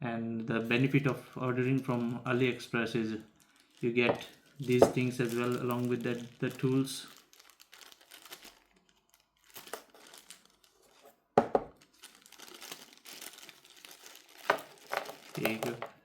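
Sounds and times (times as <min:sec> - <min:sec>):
plastic packaging crinkling: 0:00.6 - 0:16.0.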